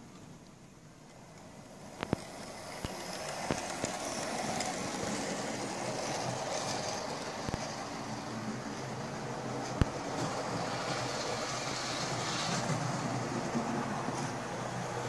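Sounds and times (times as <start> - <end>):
wheels clicking on rails: 1.0 - 15.0
model train motor hum: 1.1 - 15.0.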